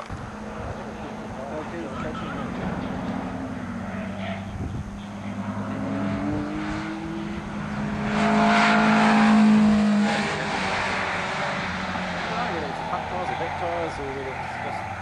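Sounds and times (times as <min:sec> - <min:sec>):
car engine accelerating past: 0:00.3 - 0:15.0.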